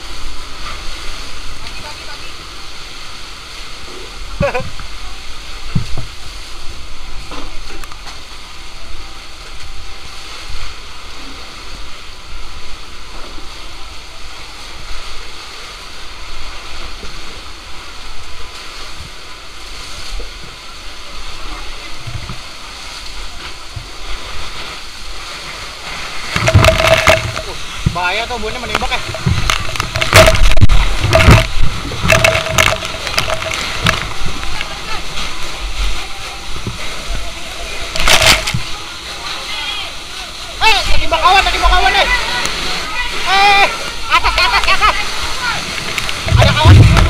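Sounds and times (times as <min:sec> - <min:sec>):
fire hose water spraying: 0:00.0 - 0:47.0.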